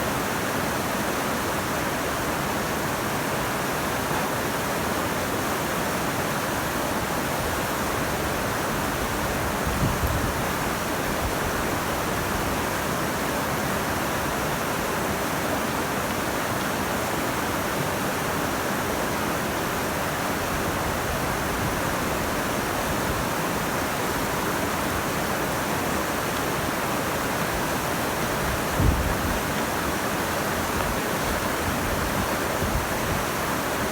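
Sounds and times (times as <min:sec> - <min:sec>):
rushing meltwater: 0:00.0 - 0:33.9.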